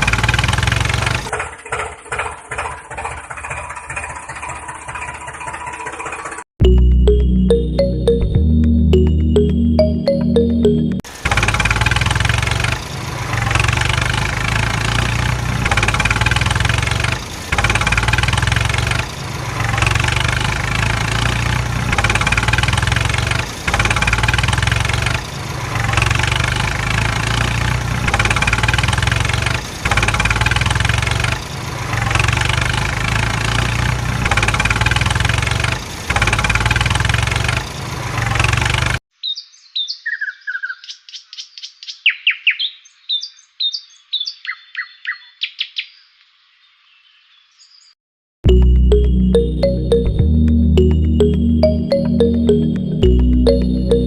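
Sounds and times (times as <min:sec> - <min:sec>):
vehicle engine droning: 0:00.0 - 0:10.2, 0:11.1 - 0:39.0, 0:48.5 - 0:54.0.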